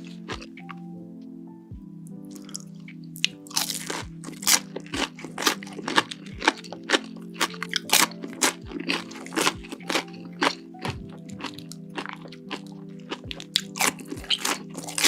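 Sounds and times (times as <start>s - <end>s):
crunchy food being chewed: 0.0s - 0.8s, 2.3s - 15.0s
background music: 0.0s - 15.0s.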